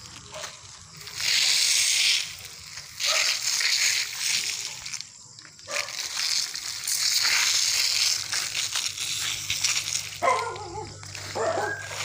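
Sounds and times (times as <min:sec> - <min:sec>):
footsteps on dry leaves: 0:00.0 - 0:12.0.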